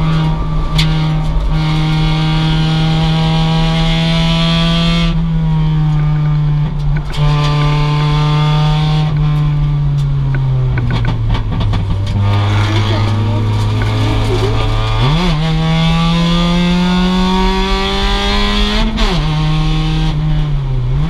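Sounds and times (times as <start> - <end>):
car engine at high revs: 0.0 - 21.0.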